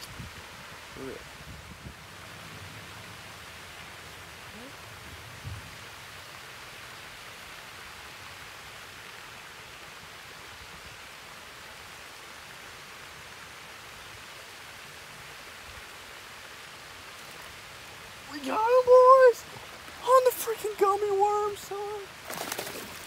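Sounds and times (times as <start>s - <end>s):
pond fountain splashing: 0.0s - 23.0s.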